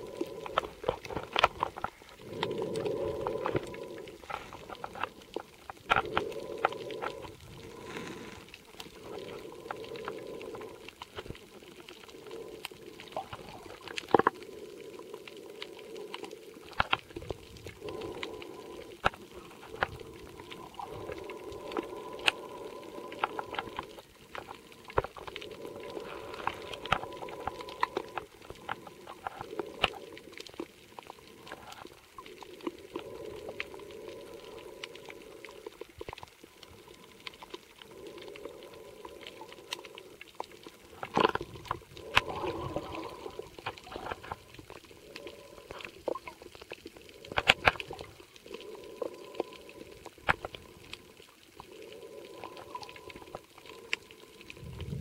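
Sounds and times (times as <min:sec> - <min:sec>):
muffled water rushing: 0:00.0 - 0:55.0
underwater clicks and crackles: 0:00.0 - 0:55.0.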